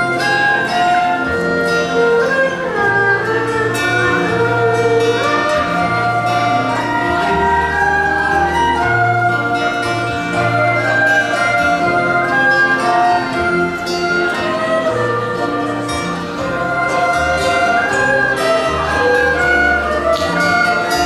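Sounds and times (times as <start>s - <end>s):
acoustic guitar: 0.0s - 21.0s
bowed string instrument: 0.0s - 21.0s
flute: 0.0s - 21.0s
plucked zither: 0.0s - 21.0s.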